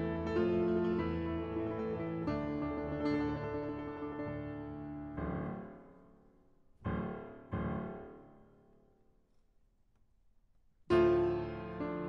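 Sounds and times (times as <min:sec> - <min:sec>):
piano chords: 0:00.0 - 0:08.8, 0:10.9 - 0:12.0.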